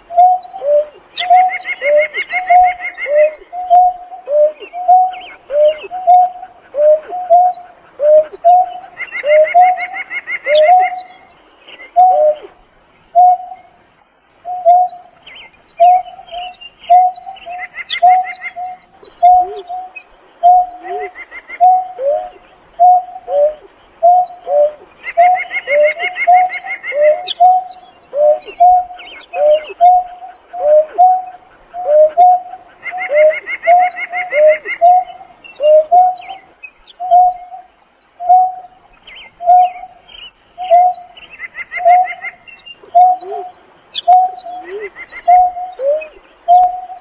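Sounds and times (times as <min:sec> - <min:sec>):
bird giving low hooting calls: 0:00.0 - 0:13.8, 0:14.4 - 0:47.0.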